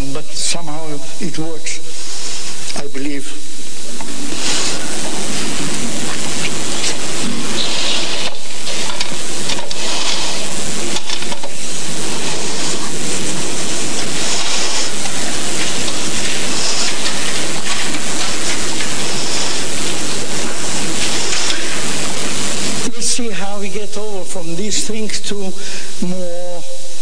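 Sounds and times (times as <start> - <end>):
loud recording hiss: 0.0 - 27.0.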